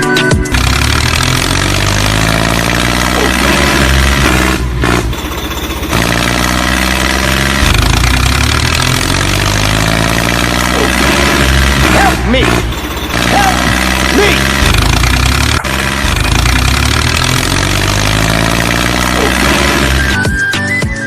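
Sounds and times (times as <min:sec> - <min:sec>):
tractor engine chugging: 0:00.0 - 0:20.4.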